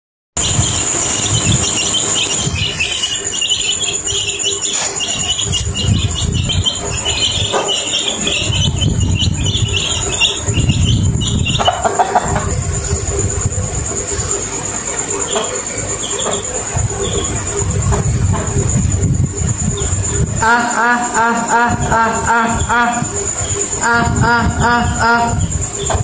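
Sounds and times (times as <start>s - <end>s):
high-pitched insect whine: 0.4s - 26.0s
low rumbling: 0.4s - 26.0s
rapid chirping: 0.4s - 26.0s.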